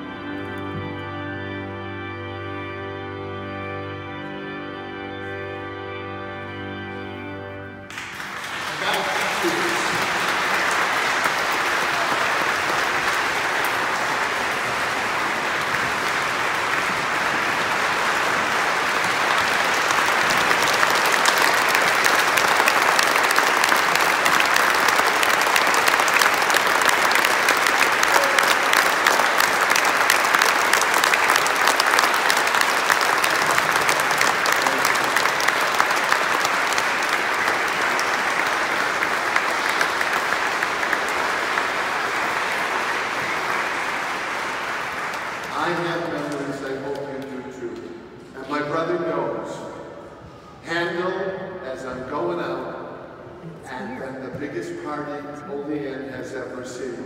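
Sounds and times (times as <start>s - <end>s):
congregation applauding: 0.0s - 57.0s.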